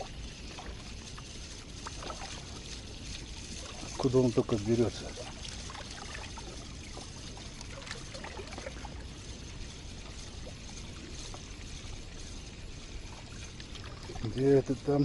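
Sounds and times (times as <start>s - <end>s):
water trickling and lapping: 0.0s - 15.0s.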